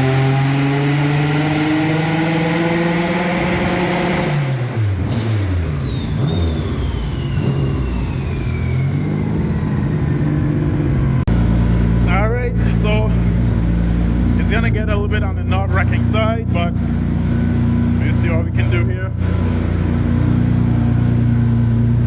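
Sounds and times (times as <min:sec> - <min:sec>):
engine revving on a dyno: 0:00.0 - 0:14.7, 0:15.6 - 0:22.0.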